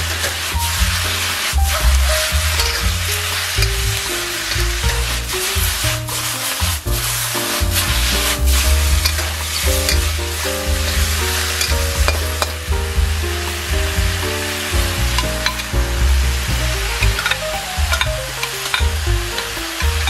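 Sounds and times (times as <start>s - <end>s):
vegetables sizzling in a wok: 0.0s - 12.7s, 13.5s - 20.0s
background music with bass: 0.0s - 20.0s.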